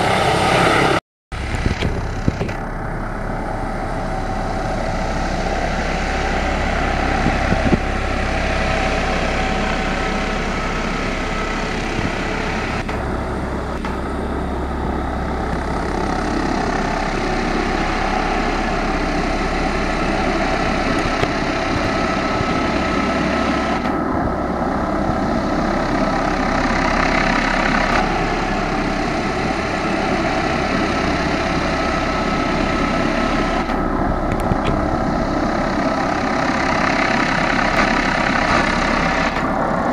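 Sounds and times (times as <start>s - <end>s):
helicopter engines whining: 0.0s - 39.9s
helicopter rotor noise: 0.0s - 39.9s.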